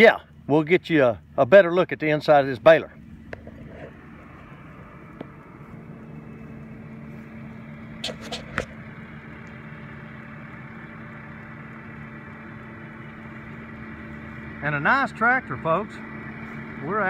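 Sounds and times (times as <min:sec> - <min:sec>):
tractor diesel engine humming: 0:00.0 - 0:17.0.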